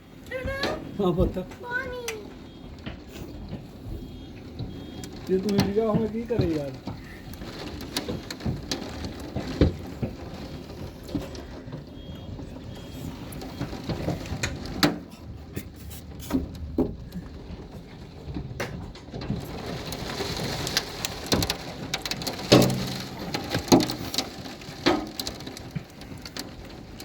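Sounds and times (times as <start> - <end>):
hail and rain pelting down: 0.0 - 27.0
hailstones cracking on hard surfaces: 0.1 - 27.0.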